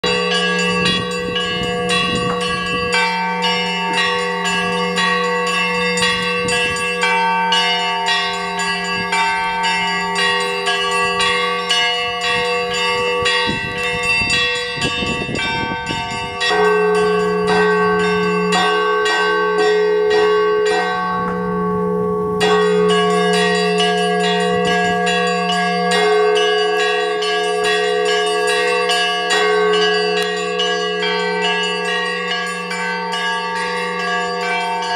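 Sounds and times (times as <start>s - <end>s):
small bells struck rapidly: 0.0s - 20.4s, 22.4s - 34.9s
deep church bell: 0.0s - 34.9s.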